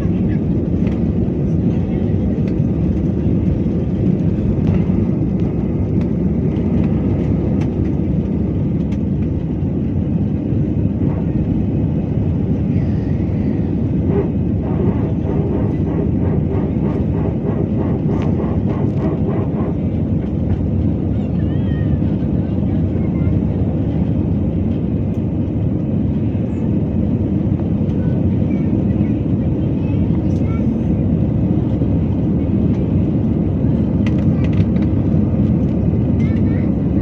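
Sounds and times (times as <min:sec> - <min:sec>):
jet engines rumbling: 0:00.0 - 0:37.0.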